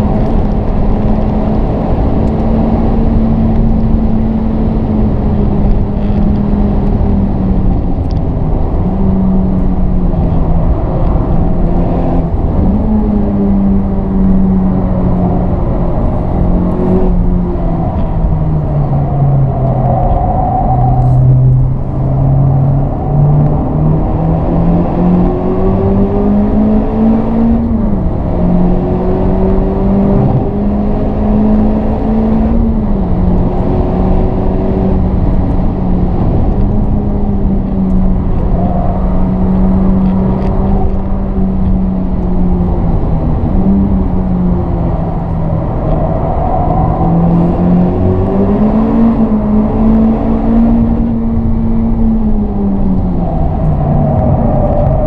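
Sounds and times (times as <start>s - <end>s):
car engine accelerating: 0.0s - 55.0s
road noise: 0.0s - 55.0s.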